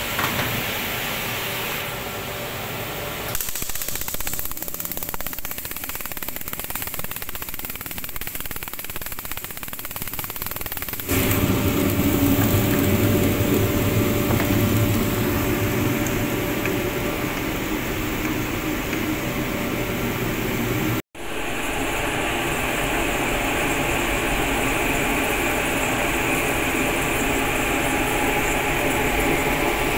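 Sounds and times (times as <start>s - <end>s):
furnace burner and blower fans: 0.0s - 5.3s, 10.9s - 29.9s.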